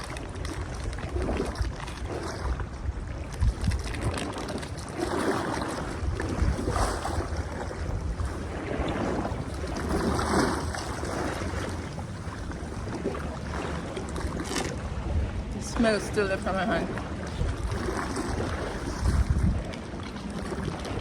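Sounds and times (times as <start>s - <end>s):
water sloshing and lapping: 0.0s - 21.0s
wind on microphone: 0.0s - 21.0s.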